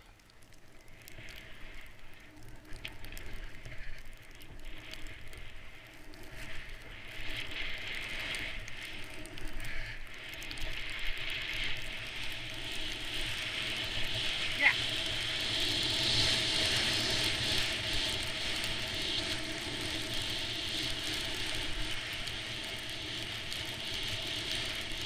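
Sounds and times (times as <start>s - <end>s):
wind rumbling on camera: 0.0s - 25.0s
skis hissing through powder snow: 4.7s - 25.0s.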